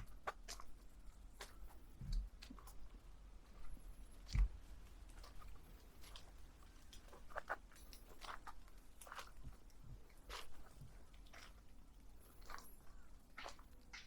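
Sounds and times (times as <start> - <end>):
footsteps crunching on a path: 0.0 - 14.0.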